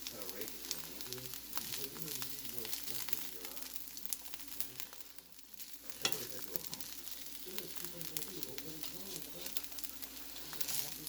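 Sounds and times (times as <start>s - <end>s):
crackles and pops: 0.0s - 11.0s
food sizzling in a pan: 0.0s - 11.0s.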